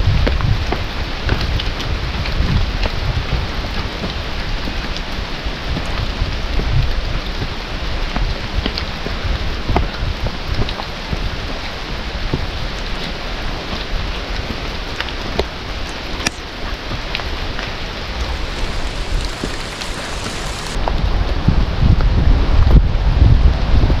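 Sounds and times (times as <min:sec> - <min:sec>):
wind rumble on microphone: 0:00.0 - 0:24.0
rain falling through forest: 0:00.6 - 0:20.8.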